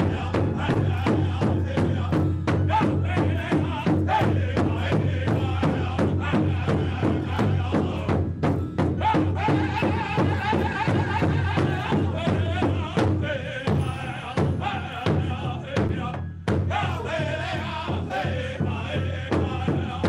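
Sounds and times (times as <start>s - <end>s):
high chanted singing: 0.0s - 20.0s
powwow drum steady beat: 0.0s - 20.0s.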